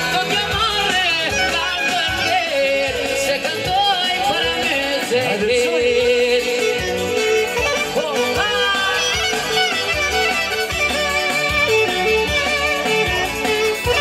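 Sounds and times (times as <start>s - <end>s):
folk dance instrumental melody: 0.0s - 14.0s
rhythmic bass beat: 0.0s - 14.0s.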